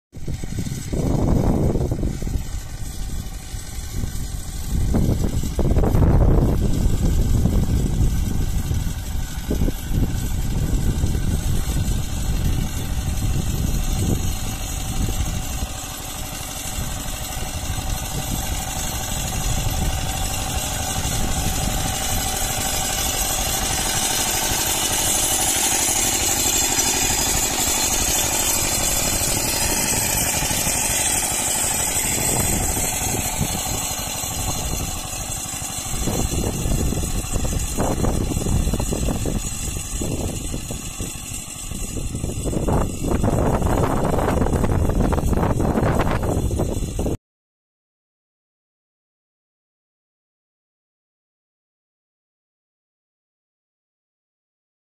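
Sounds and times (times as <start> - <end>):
power tiller engine running: 0.2 - 47.2.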